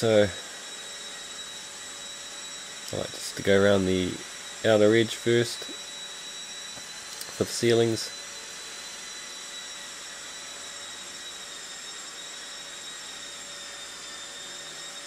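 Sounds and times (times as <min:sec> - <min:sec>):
drywall sander running: 0:00.0 - 0:15.0.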